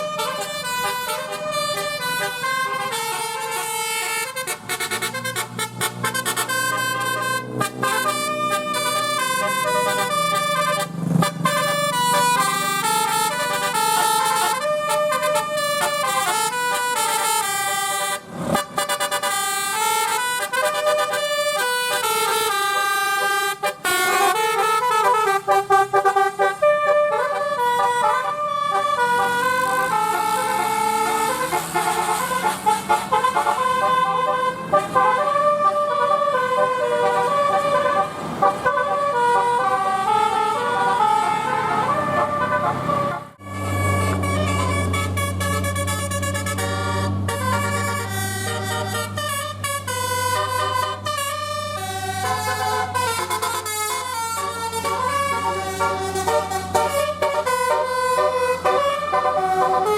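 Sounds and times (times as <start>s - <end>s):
multi-tone air horn melodies: 0.0s - 59.9s.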